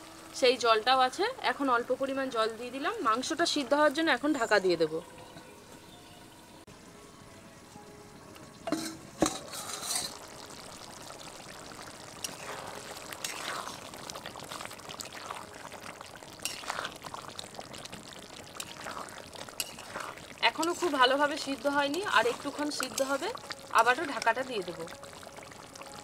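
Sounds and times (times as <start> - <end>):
gravy bubbling and sizzling: 0.0 - 26.0.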